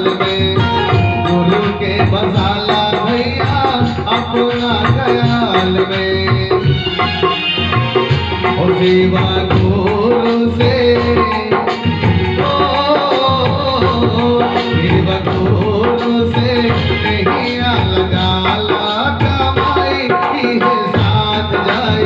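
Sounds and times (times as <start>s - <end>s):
electronic keyboard melody: 0.0s - 22.0s
hand drum rhythm: 0.0s - 22.0s.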